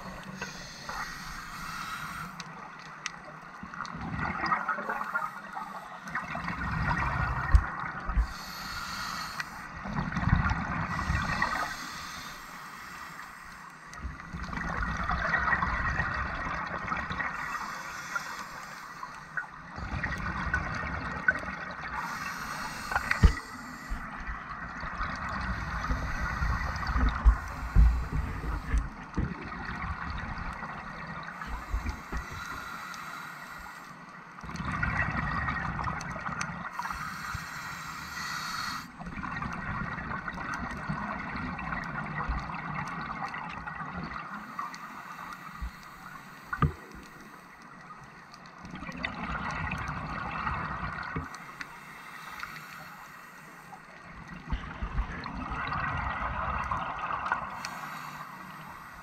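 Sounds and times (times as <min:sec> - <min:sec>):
underwater exhaled bubbles: 0:00.0 - 0:13.3, 0:13.9 - 0:33.2, 0:34.4 - 0:53.2, 0:53.8 - 0:59.0.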